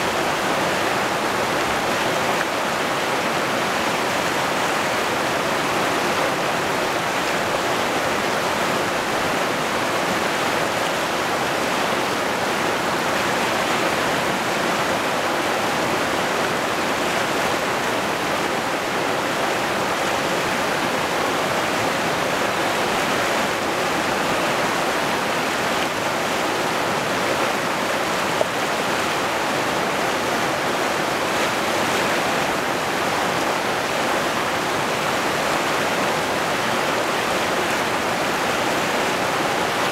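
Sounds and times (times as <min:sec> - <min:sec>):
river rapids rushing over boulders: 0:00.0 - 0:39.9.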